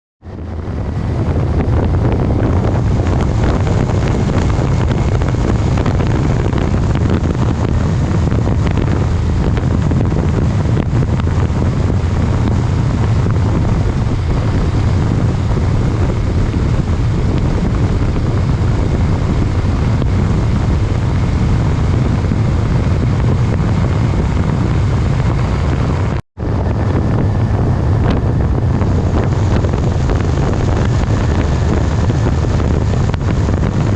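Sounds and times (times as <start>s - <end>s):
vehicle engine running: 0.2s - 33.9s
wind buffeting microphone: 0.2s - 33.9s.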